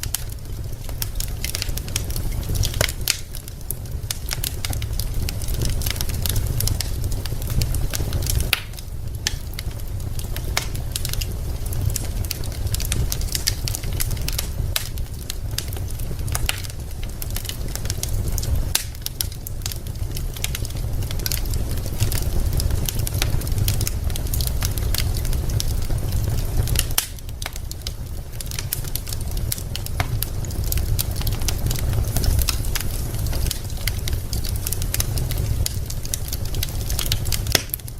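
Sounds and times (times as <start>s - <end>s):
fire low rumble: 0.0s - 37.9s
logs crackling and popping: 0.0s - 37.9s.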